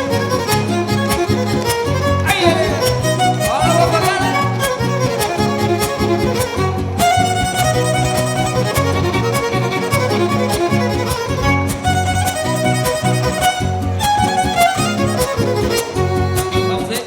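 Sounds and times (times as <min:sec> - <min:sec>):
strummed guitar chords: 0:00.0 - 0:17.0
violin melody: 0:00.0 - 0:17.0.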